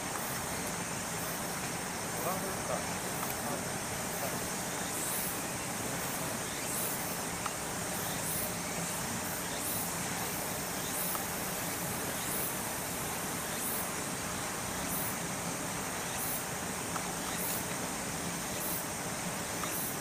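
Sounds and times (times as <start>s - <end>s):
insect chirps: 0.0s - 20.0s
insects buzzing: 0.0s - 20.0s.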